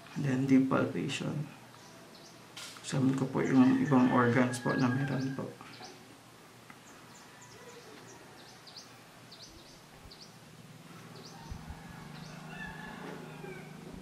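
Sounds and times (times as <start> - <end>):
small birds chirping: 1.3 - 14.0.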